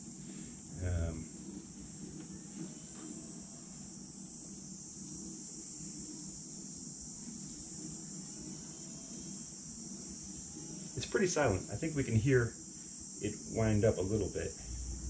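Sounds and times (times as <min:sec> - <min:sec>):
faint electric motor whine: 0:00.0 - 0:15.0.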